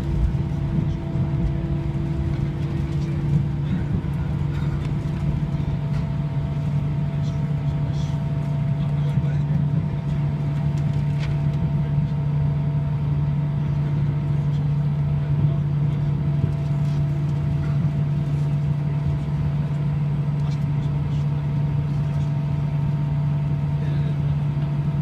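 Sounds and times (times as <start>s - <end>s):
faint engine whine: 0.0s - 25.0s
jet engine drone in cabin: 0.0s - 25.0s.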